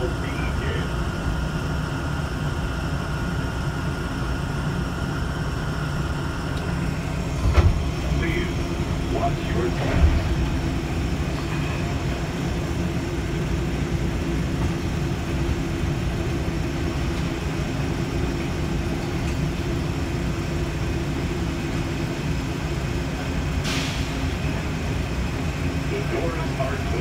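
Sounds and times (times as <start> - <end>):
train rumble in tunnel: 0.0 - 27.0.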